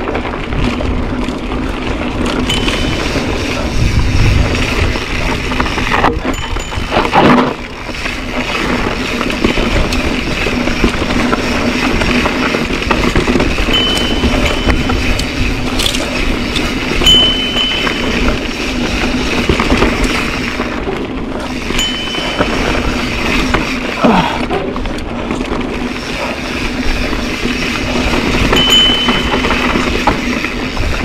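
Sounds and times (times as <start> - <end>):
bike rattles and clicks: 0.0 - 31.0
bike tyre noise: 0.0 - 31.0
wind noise: 0.0 - 31.0.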